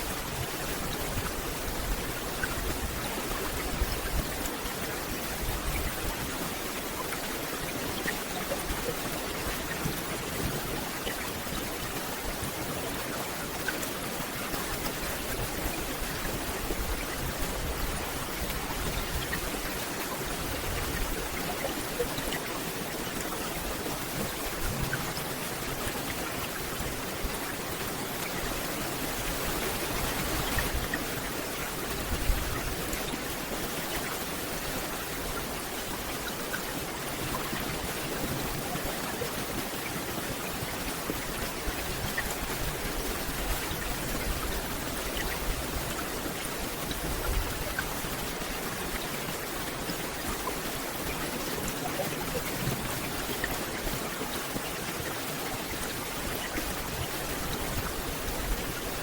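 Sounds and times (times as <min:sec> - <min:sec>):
rain falling on forest canopy: 0:00.0 - 0:59.0.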